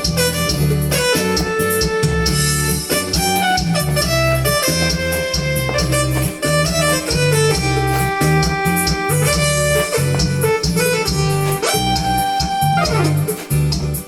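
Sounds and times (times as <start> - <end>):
electronic keyboard melody: 0.0 - 14.0
pulsing keyboard bass: 0.0 - 14.0.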